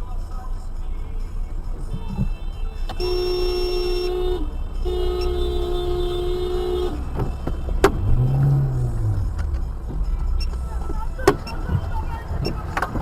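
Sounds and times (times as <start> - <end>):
road and engine rumble: 0.0 - 13.0
car horn honking: 1.8 - 12.7.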